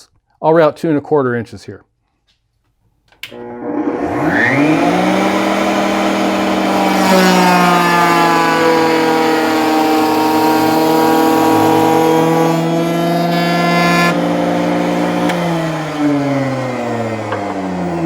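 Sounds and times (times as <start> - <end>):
router bit cutting wood: 3.3 - 18.0
router spinning with high whine: 3.3 - 18.0.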